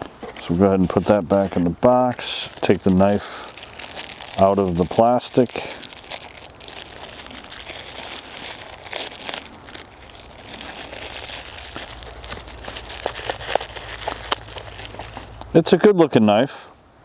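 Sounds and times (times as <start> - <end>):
plastic wrapping crinkling: 0.0 - 15.6.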